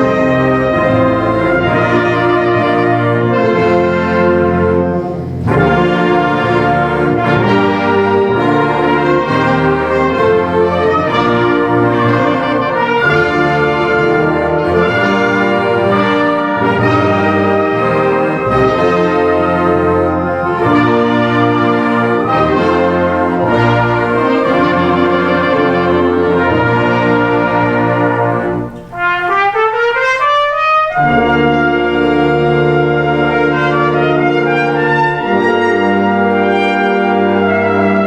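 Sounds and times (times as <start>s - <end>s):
concert band playing: 0.0s - 38.0s
trumpets and trombones: 0.0s - 38.0s.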